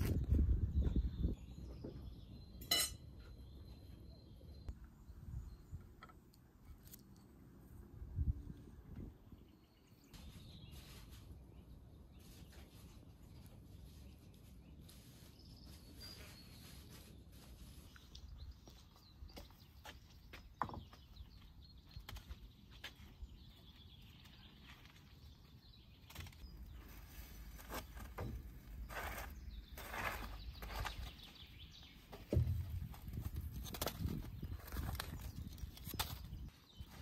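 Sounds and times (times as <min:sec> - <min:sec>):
faint birdsong: 0:00.0 - 0:37.0.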